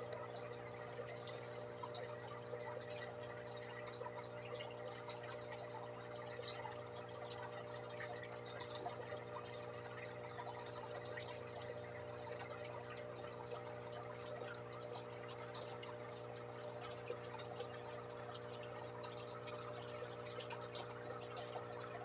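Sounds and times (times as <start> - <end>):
aquarium pump humming: 0.0 - 22.0
water bubbling and trickling: 0.0 - 22.0.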